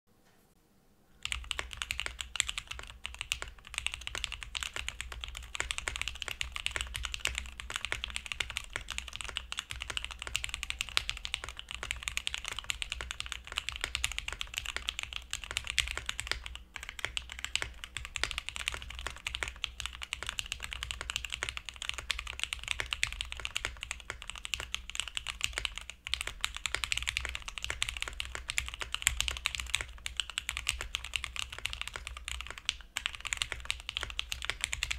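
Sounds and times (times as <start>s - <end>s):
fast mechanical keyboard typing: 1.2s - 34.9s.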